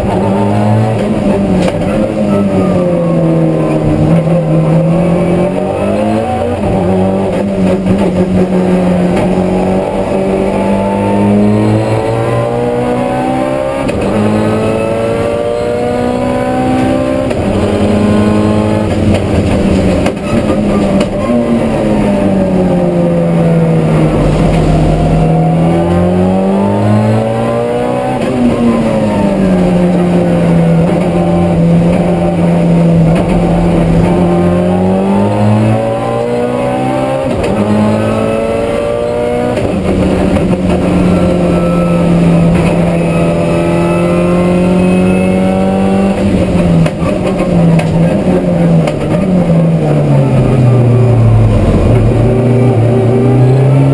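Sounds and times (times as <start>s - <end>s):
race car engine at full throttle: 0.0s - 53.9s.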